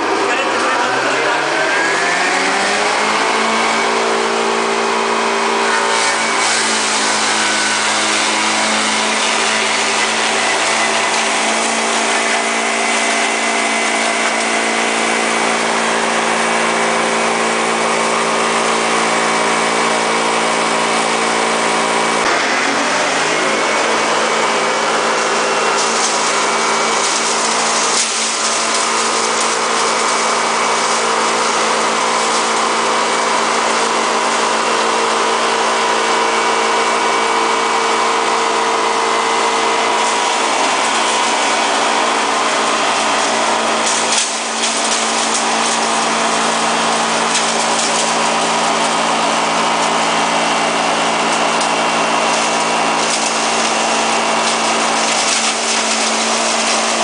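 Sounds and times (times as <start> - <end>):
hammer mill grinding branches: 0.0 - 57.0.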